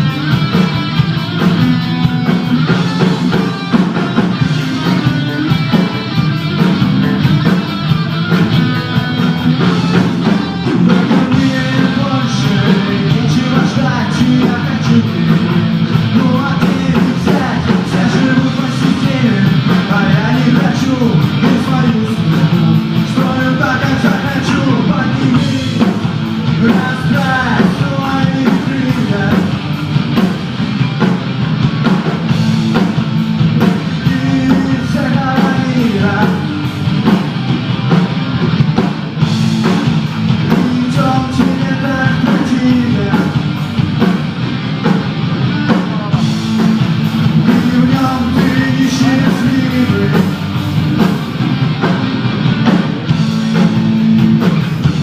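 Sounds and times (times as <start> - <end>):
rock music with distorted guitars: 0.0 - 55.0.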